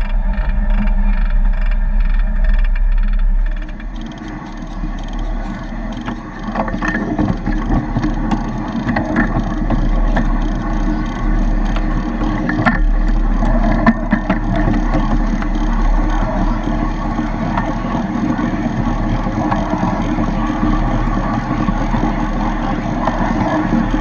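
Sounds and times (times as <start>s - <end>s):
miniature train rumbling: 0.0s - 24.0s
wheels clicking over rail joints: 0.0s - 24.0s.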